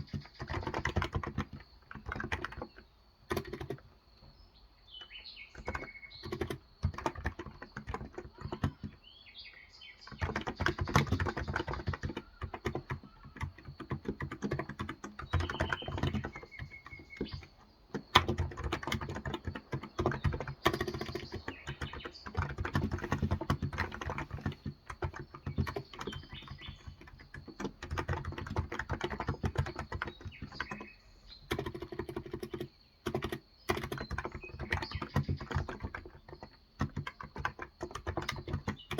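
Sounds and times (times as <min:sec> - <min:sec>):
typing on a keyboard: 0:00.0 - 0:04.3, 0:05.0 - 0:09.2, 0:10.0 - 0:38.9
birds chirping: 0:00.0 - 0:38.9.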